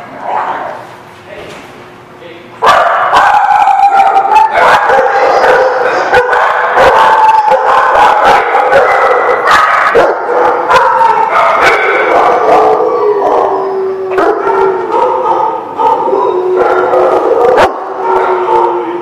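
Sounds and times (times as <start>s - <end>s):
many dogs barking: 2.6s - 19.0s
dogs howling: 2.7s - 19.0s.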